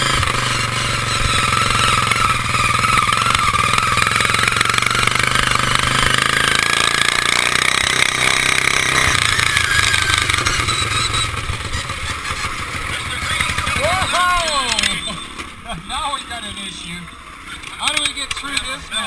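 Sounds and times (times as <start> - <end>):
lawn mower engine running hard: 0.0 - 16.1.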